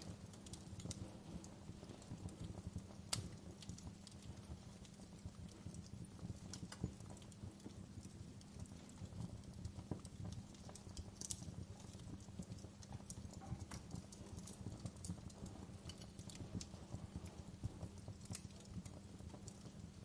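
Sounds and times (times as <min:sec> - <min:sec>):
fire crackling and popping: 0:00.0 - 0:20.0
low rumble of flame: 0:00.0 - 0:20.0.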